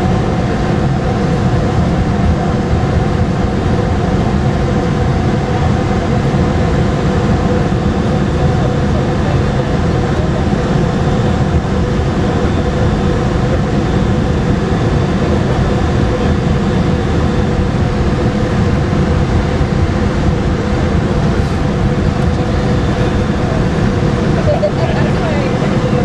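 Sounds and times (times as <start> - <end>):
aircraft cabin rumble: 0.0 - 26.0
jet engines humming: 0.0 - 26.0.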